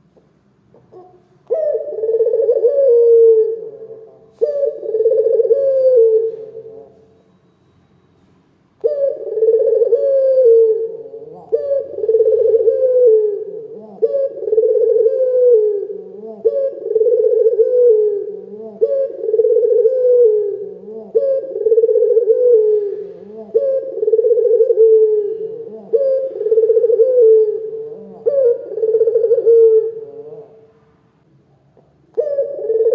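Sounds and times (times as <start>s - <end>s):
dove cooing: 0.7s - 7.1s, 8.8s - 30.7s, 31.8s - 32.9s.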